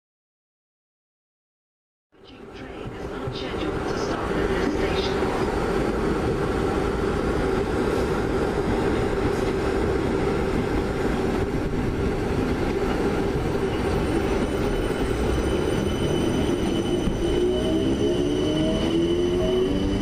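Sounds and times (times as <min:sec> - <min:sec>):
train wheels and motors rumbling: 0:02.3 - 0:20.0.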